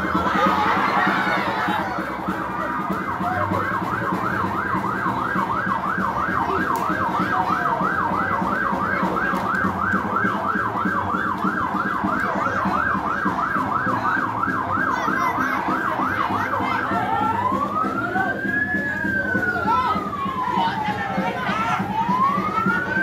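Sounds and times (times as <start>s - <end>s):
siren yelping: 0.0s - 23.0s.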